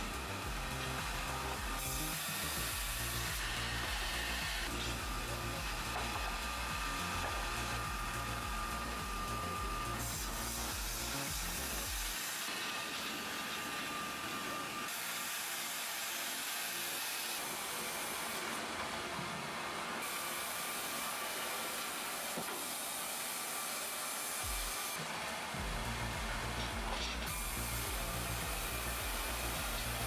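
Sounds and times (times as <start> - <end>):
wood-cutting machinery hissing: 0.0 - 30.0.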